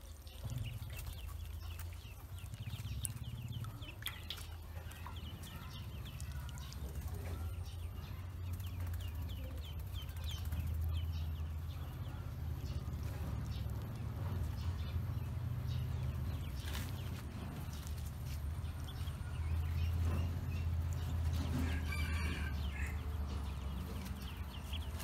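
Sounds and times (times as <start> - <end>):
ducklings peeping: 0.0 - 25.0
steady low rumble: 0.0 - 25.0.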